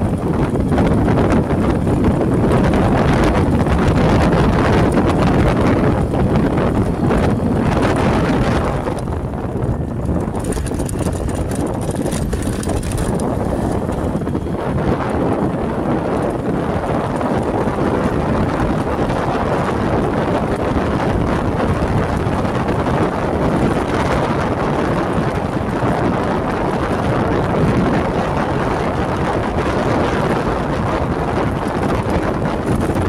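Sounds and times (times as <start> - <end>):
vehicle road noise: 0.0 - 33.0
wind rushing over microphone: 0.0 - 33.0.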